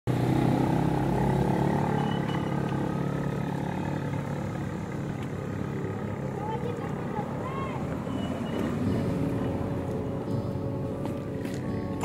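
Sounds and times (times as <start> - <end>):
vehicle engine rumbling: 0.1 - 12.0.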